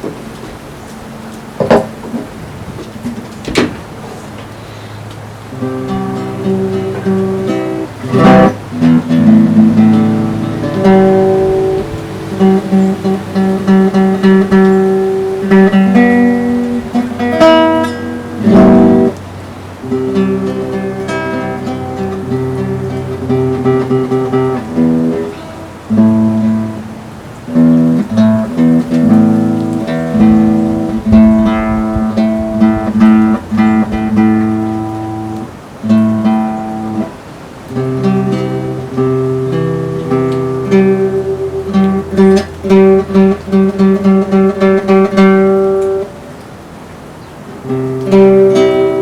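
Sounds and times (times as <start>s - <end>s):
acoustic guitar strumming chords: 0.0s - 49.0s.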